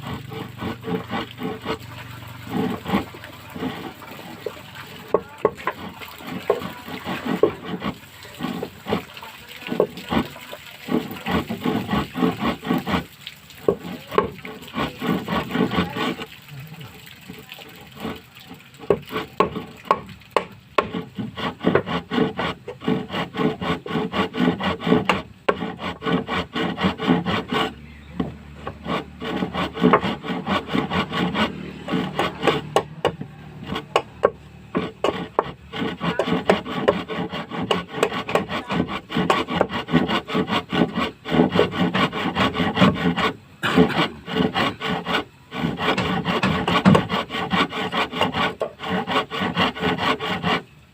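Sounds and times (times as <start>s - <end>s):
hand tool rasping wood: 0.0s - 50.9s.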